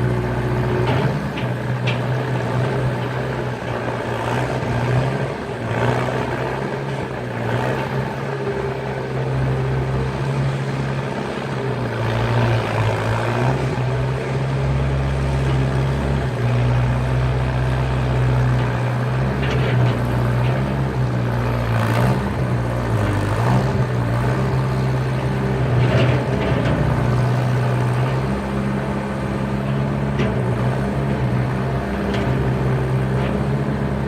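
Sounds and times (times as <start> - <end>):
skid steer engine running: 0.0 - 34.0.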